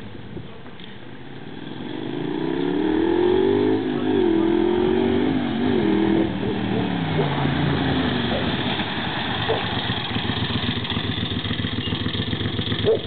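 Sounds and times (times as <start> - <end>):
motorcycle engine approaching: 1.2 - 13.0.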